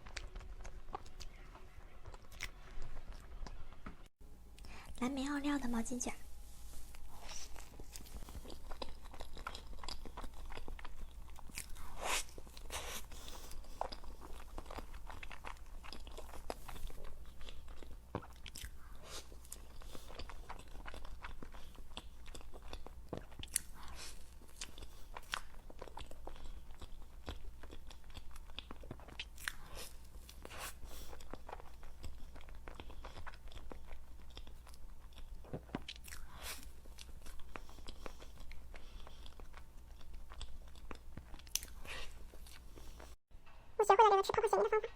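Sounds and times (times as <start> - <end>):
biting and chewing crunches: 0.0 - 3.6, 7.0 - 43.1.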